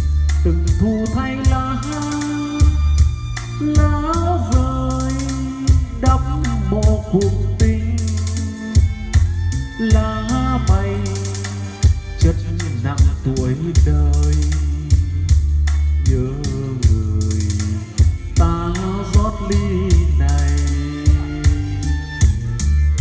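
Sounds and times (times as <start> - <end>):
song through loud speakers: 0.0 - 23.0.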